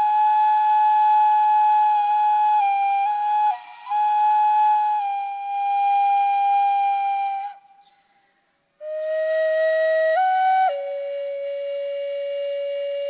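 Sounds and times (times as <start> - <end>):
flute melody: 0.0 - 7.9, 8.8 - 13.0.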